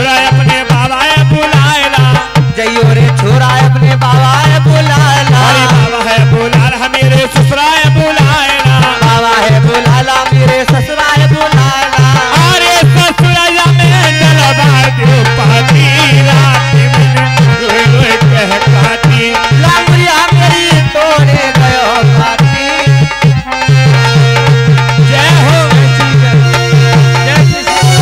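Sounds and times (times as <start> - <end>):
fast drum beat: 0.0 - 28.0
keyboard melody: 0.0 - 28.0.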